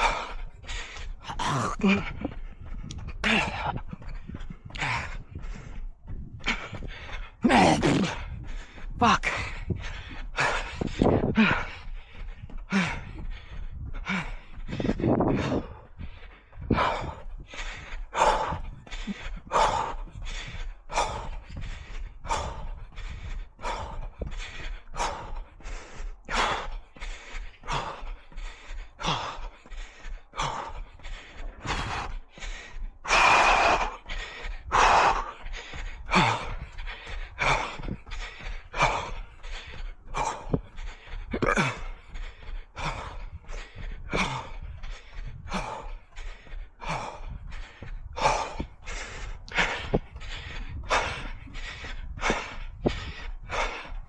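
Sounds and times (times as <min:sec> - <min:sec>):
heavy rhythmic breathing: 0:00.0 - 0:54.0.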